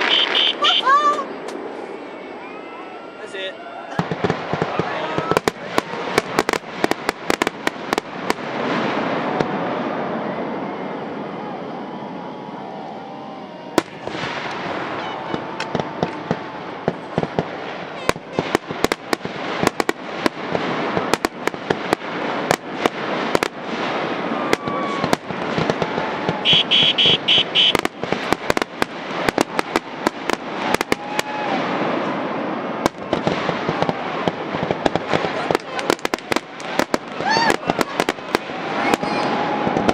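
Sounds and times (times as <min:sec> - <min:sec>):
firework bangs: 0:00.0 - 0:02.0, 0:03.9 - 0:11.4, 0:13.5 - 0:39.9
firework crackling: 0:00.0 - 0:39.9.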